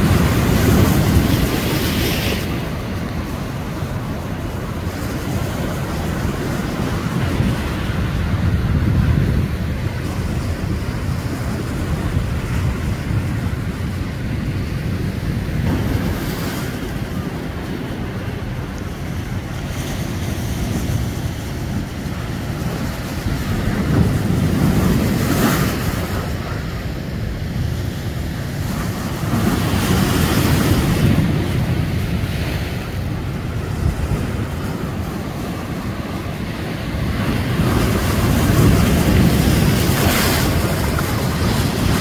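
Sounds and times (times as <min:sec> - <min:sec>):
waves breaking on rocky shore: 0:00.0 - 0:42.0
wind buffeting microphone: 0:00.0 - 0:42.0.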